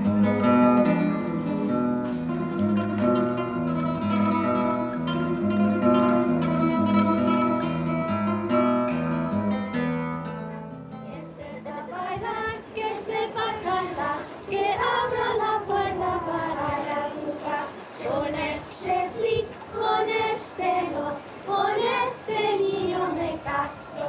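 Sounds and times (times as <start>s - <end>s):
children singing together: 2.0s - 8.8s, 11.3s - 24.0s.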